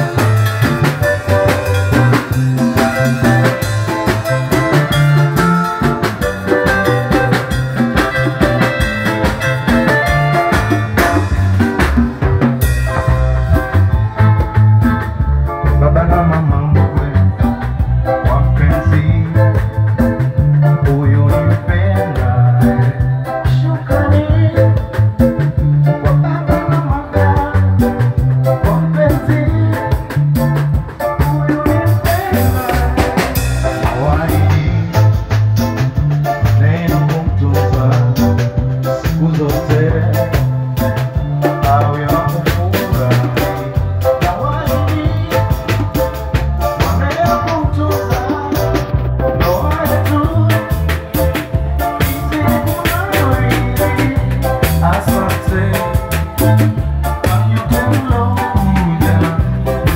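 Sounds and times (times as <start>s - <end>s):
live band playing upbeat song: 0.0s - 59.9s
steady bass line: 0.0s - 59.9s.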